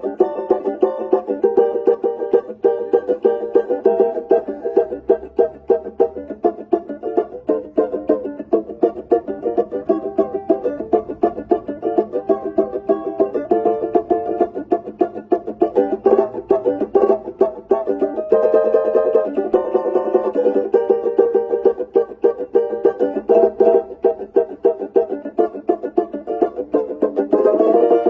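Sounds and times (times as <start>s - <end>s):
banjo plucked notes: 0.0s - 28.0s.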